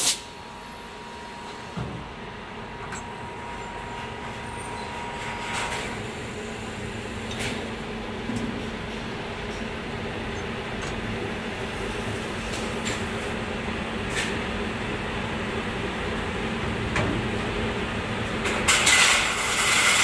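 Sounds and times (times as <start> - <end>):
machinery humming: 0.0 - 18.6.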